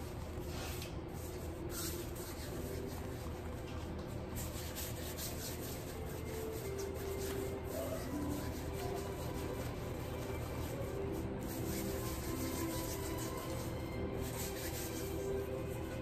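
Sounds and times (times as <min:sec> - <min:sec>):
hands rolling dough on countertop: 0:00.0 - 0:16.0.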